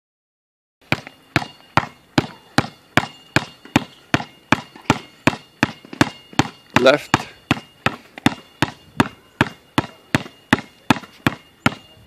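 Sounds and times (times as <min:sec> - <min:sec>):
basketball bouncing on hard court: 0:00.8 - 0:12.0.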